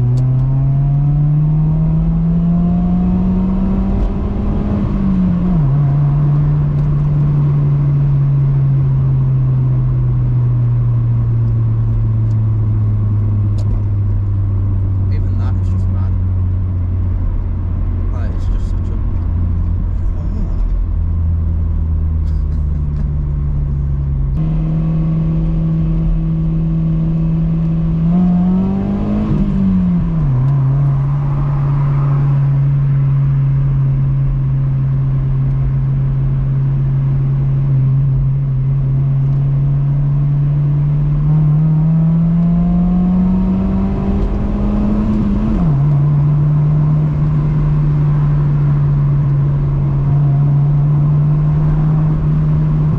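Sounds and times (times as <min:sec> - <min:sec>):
car engine revving while driving: 0:00.0 - 0:52.9.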